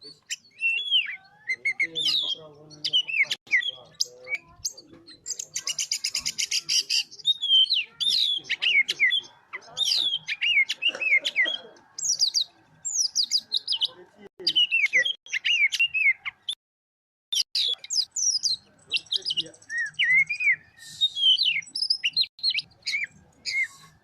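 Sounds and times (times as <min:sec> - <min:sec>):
magpie-robin singing: 0:00.0 - 0:16.6, 0:17.4 - 0:24.0.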